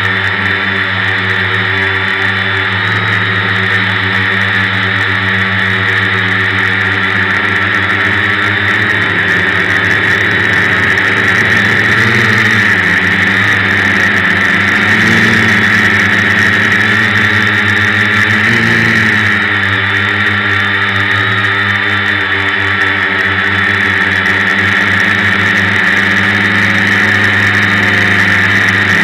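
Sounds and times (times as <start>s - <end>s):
drone motors buzzing whine: 0.0s - 29.0s.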